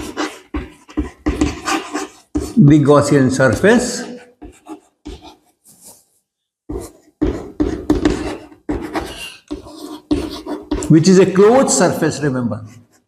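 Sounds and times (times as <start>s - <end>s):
chalk writing on blackboard: 0.0s - 6.1s, 6.7s - 11.6s.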